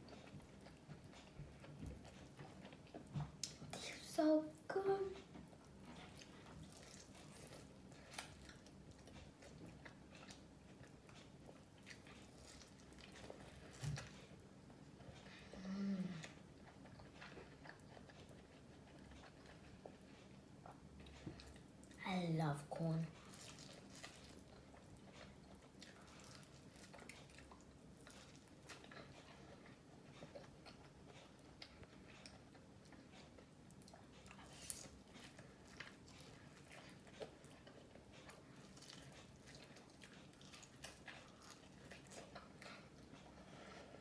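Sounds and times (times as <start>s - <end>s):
mouth chewing corn: 0.0s - 4.2s, 5.2s - 22.0s, 22.7s - 44.0s.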